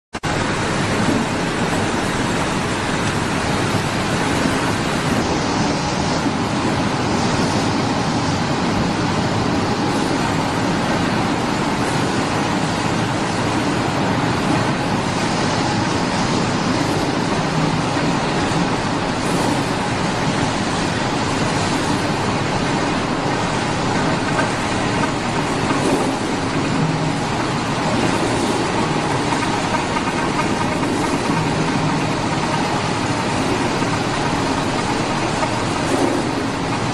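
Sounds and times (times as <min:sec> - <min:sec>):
processing machinery running: 0:00.2 - 0:36.9.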